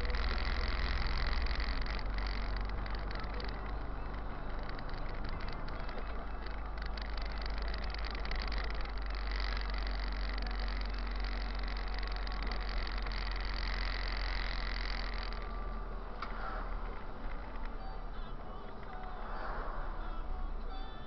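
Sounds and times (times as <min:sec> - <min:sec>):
bus engine drone: 0:00.0 - 0:21.0
road and cabin noise: 0:00.0 - 0:21.0.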